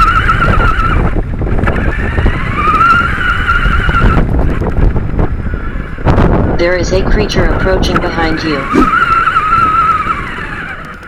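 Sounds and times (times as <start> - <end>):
rc car electric motor whine: 0.0 - 6.5, 8.6 - 11.0.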